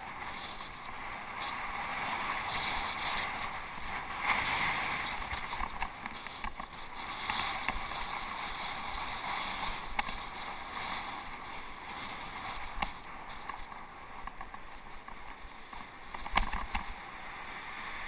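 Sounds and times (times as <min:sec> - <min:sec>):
bike clicking and rattling: 0:00.0 - 0:18.0.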